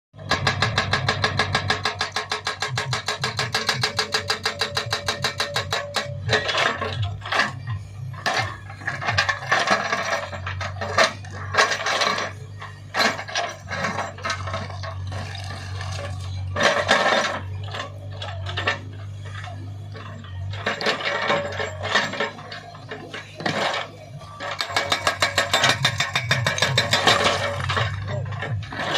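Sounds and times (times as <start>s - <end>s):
diesel engine running: 0.2s - 28.9s
hydraulic breaker hammering: 0.2s - 28.9s
metallic clanks and knocks: 0.2s - 28.9s.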